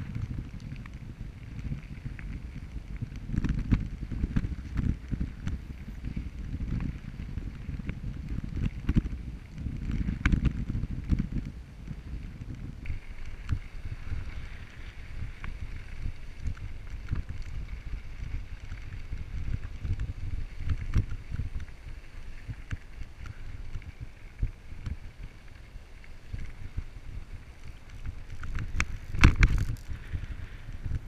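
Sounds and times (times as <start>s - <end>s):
low rumble of camera jostling: 0.0s - 31.0s
wind buffeting microphone: 0.0s - 31.0s.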